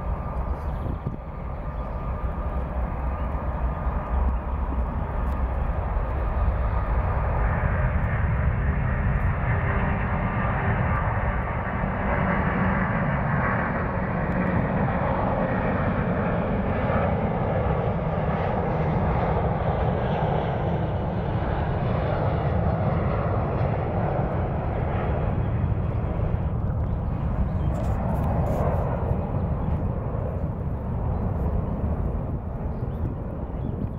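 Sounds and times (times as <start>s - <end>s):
jet airliner taking off: 0.0s - 33.9s.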